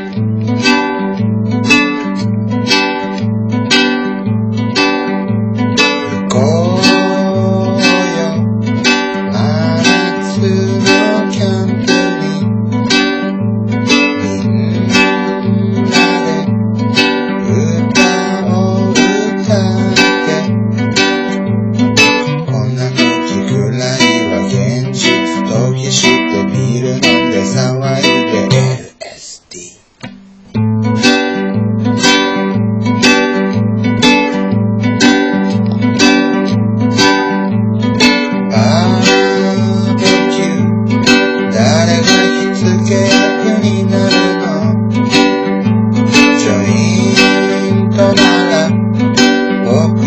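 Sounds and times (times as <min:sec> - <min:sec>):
strummed acoustic guitar: 0:00.0 - 0:50.0.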